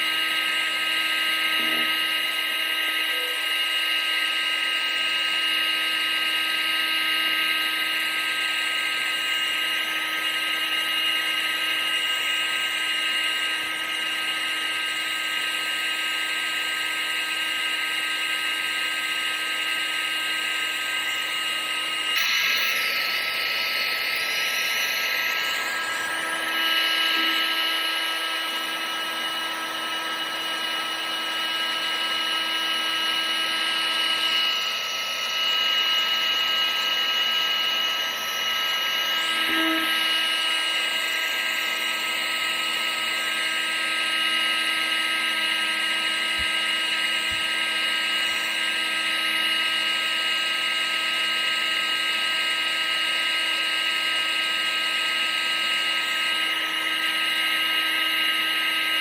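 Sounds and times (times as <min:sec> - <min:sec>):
appliance motor whine: 0:00.0 - 0:59.0.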